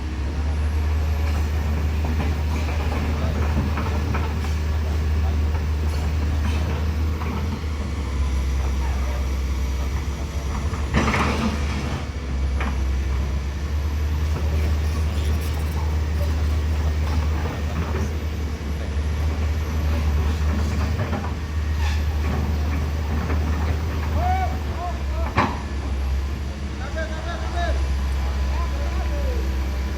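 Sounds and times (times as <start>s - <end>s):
truck engine rumbling: 0.0s - 29.9s.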